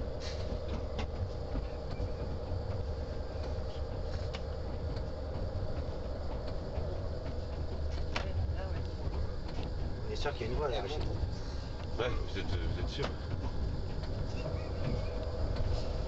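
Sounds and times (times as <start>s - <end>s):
diesel engine rumbling: 0.0s - 16.0s
steady hum: 0.0s - 16.0s.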